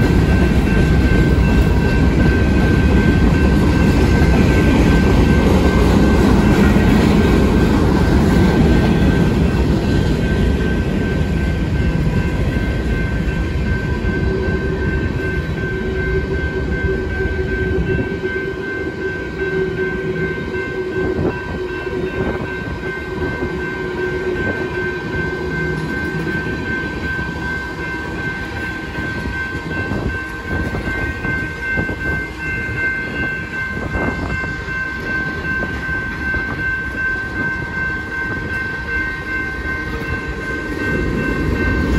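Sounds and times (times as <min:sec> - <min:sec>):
crossing signal bell ringing: 0:00.0 - 0:41.9
freight train rumbling past: 0:00.0 - 0:41.9.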